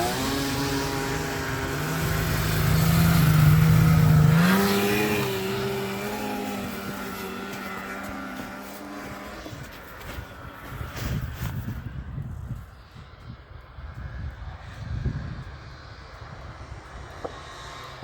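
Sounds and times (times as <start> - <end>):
snowmobile engines racing: 0.0 - 18.0.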